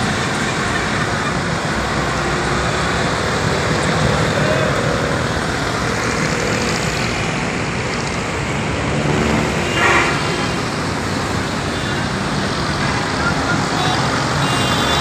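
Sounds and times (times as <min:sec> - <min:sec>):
engines rumbling: 0:00.0 - 0:15.0
tyres hissing on wet road: 0:00.0 - 0:15.0.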